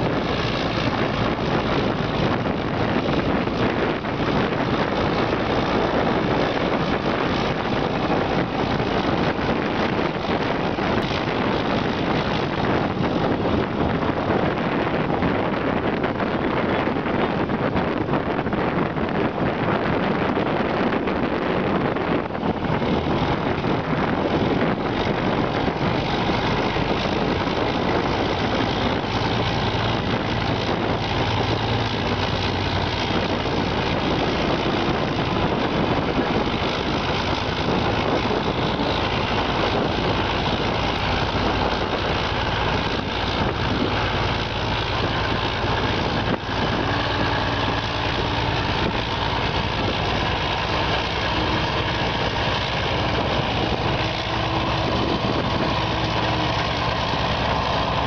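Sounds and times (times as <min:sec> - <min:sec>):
tracked vehicle diesel engine running: 0:00.0 - 0:58.0.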